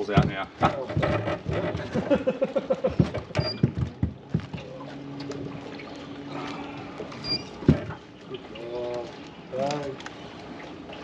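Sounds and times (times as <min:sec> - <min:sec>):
knocks and clicks in boat: 0:00.0 - 0:10.2.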